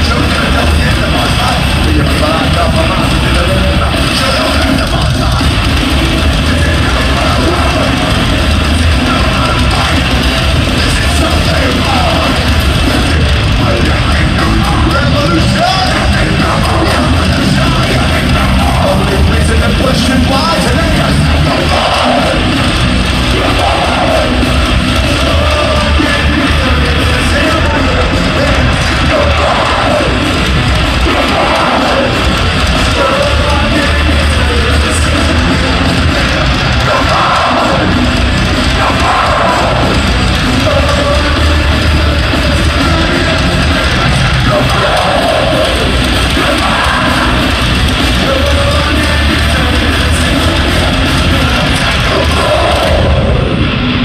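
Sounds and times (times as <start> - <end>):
shouted vocals: 0.0 - 53.8
heavy metal band playing live: 0.0 - 54.0.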